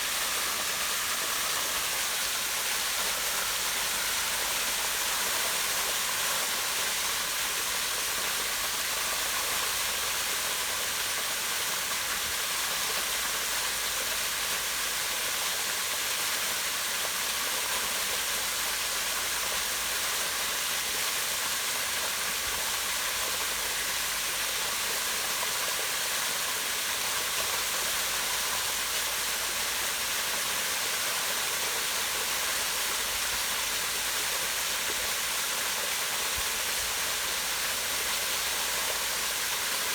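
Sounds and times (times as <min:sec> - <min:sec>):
waterfall rushing into pond: 0:00.0 - 0:39.9.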